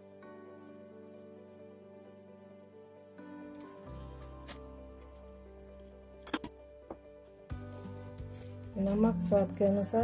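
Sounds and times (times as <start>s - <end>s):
soft instrumental background music: 0.0s - 10.0s.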